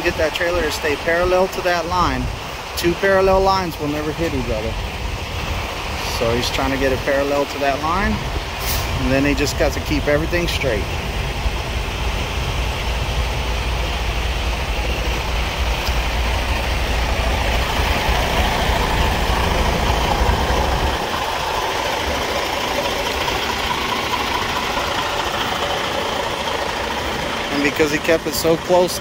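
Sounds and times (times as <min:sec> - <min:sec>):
diesel truck engine rumbling: 0:00.0 - 0:29.0.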